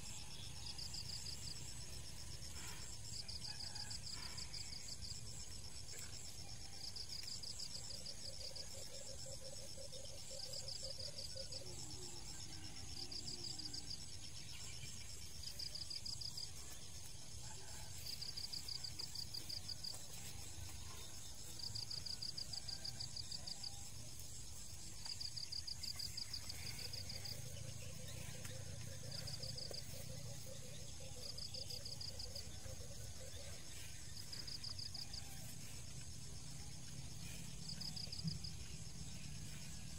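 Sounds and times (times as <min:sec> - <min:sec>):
lower pulsed insect trill: 0:00.0 - 0:39.9.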